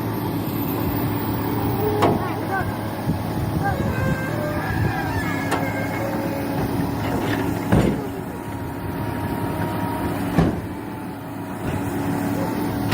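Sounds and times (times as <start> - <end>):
heavy engine running: 0.0 - 12.9.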